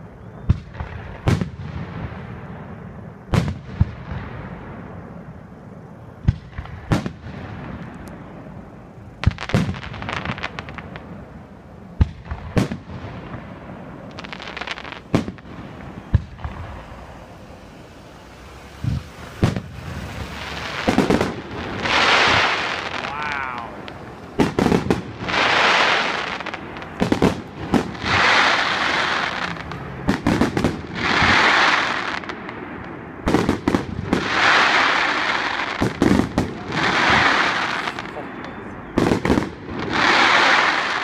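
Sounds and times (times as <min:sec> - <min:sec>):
fireworks booming: 0:00.0 - 0:41.0
fireworks crackling: 0:00.0 - 0:41.0.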